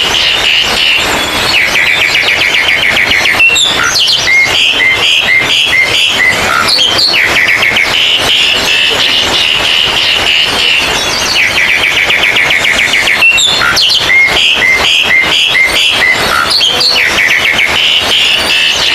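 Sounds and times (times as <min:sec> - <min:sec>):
high bird chatter: 0:00.0 - 0:18.9
songbirds singing: 0:00.0 - 0:18.9.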